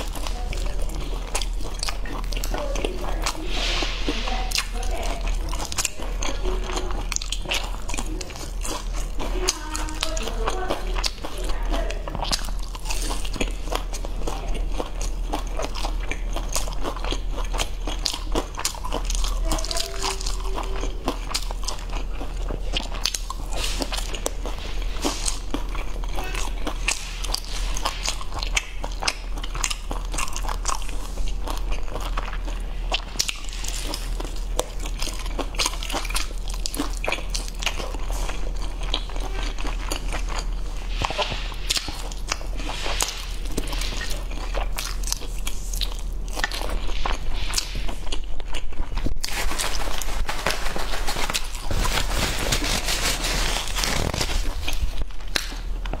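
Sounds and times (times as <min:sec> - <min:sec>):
person chewing crispy food: 0:00.0 - 0:56.0.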